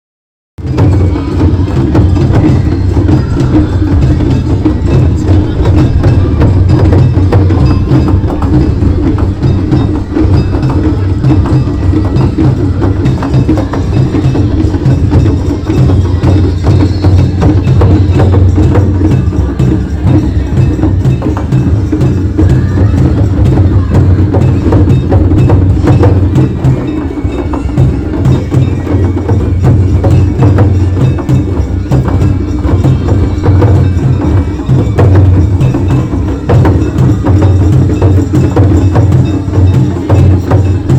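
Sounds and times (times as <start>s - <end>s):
struck percussion clacking and ringing: 0.6s - 40.9s
taiko drums beating fast rhythm: 0.6s - 40.9s.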